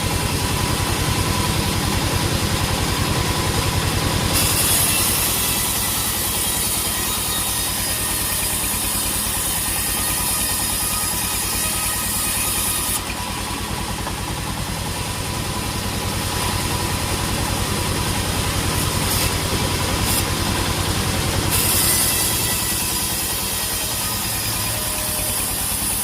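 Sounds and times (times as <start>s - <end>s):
sawmill engine running: 0.0s - 26.0s.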